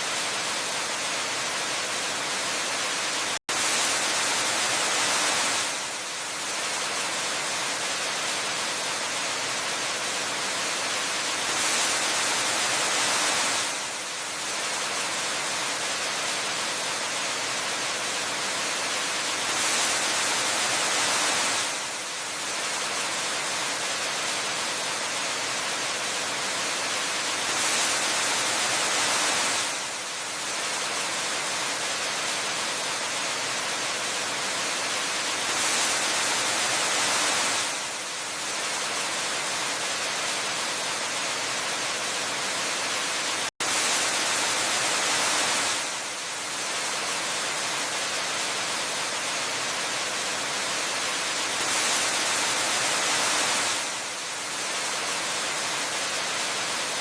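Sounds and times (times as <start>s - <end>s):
waterfall rushing water: 0.0s - 57.0s.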